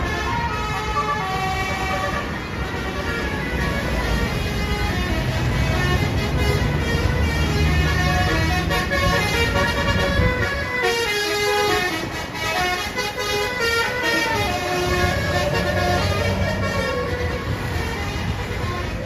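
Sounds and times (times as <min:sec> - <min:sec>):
bus engine low rumble: 0:00.0 - 0:19.0
multi-tone bus air horn melody: 0:00.0 - 0:19.0.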